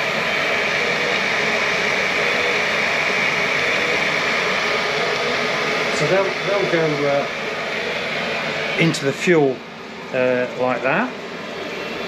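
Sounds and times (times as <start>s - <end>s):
machinery whirring: 0.0s - 12.0s.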